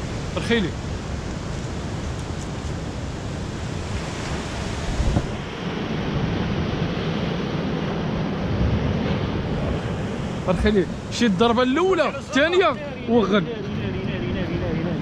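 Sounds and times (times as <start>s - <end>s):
surf breaking on rocky shore: 0.0s - 15.0s
wind buffeting microphone: 0.0s - 15.0s.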